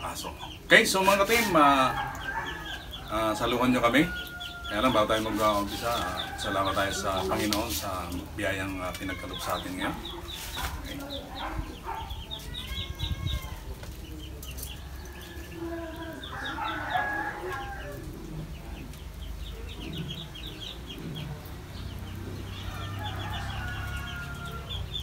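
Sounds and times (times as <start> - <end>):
chickens clucking and calling: 0.0 - 25.0.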